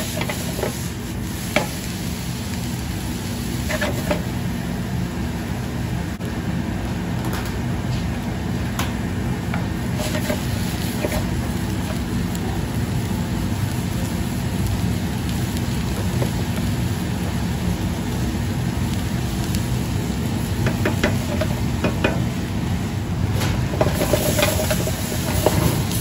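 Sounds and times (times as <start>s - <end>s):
onions sizzling in a frying pan: 0.0s - 26.0s.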